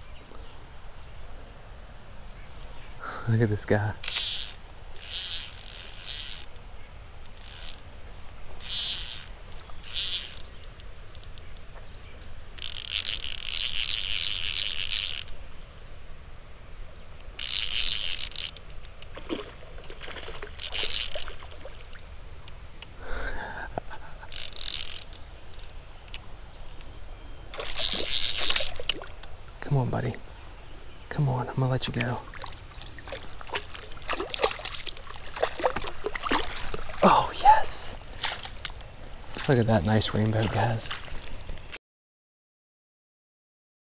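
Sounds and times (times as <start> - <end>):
insects buzzing: 0.0 - 41.8.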